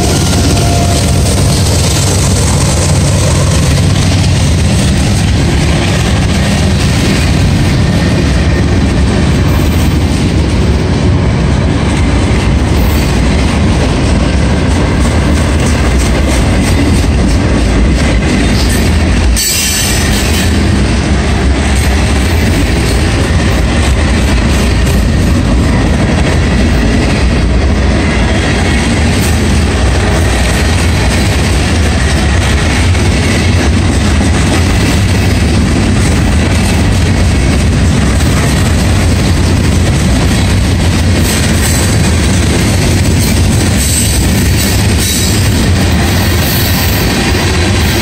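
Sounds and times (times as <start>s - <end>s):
freight train cars rumbling past: 0.0s - 48.0s.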